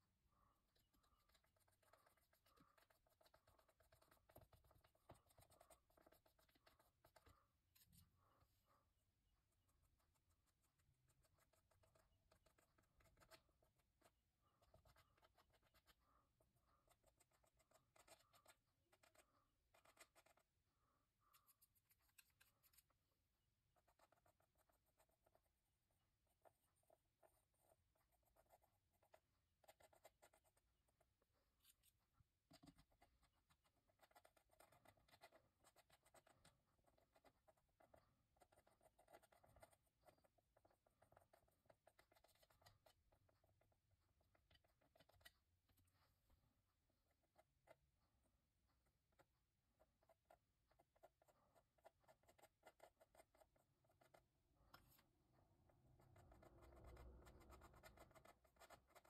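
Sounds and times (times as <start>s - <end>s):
palette knife scraping paint: 0.0s - 46.4s, 48.9s - 59.0s.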